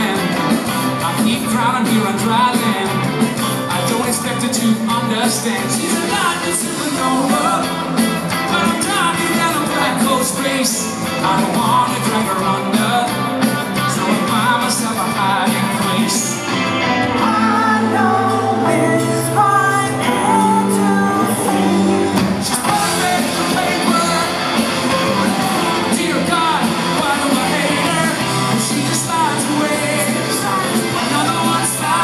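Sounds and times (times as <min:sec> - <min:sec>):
person singing and shouting: 0:00.0 - 0:16.4, 0:17.1 - 0:32.0
live rock band playing: 0:00.0 - 0:32.0.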